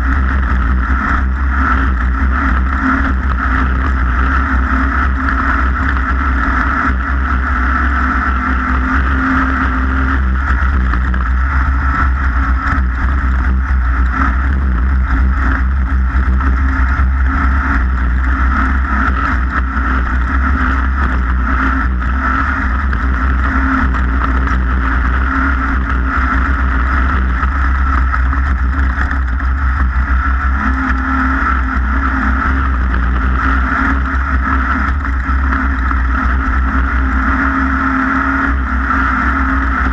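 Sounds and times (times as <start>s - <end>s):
boat engine deep rumble: 0.0s - 39.9s.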